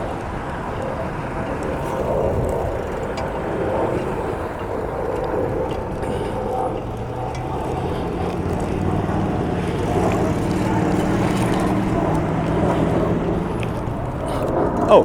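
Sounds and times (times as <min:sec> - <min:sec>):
road noise: 0:00.0 - 0:15.0
vehicle engine humming: 0:00.0 - 0:15.0.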